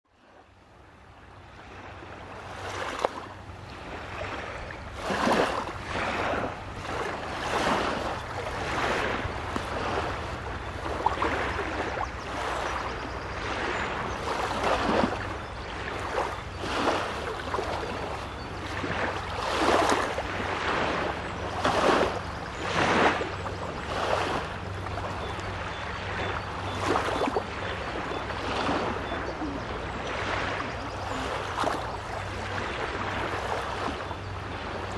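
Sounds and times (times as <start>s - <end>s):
small waves washing onto beach: 0.1s - 34.9s.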